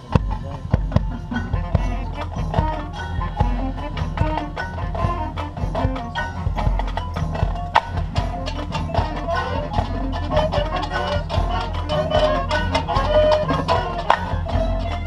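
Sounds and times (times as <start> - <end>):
mallet keyboard notes: 0.0 - 15.0.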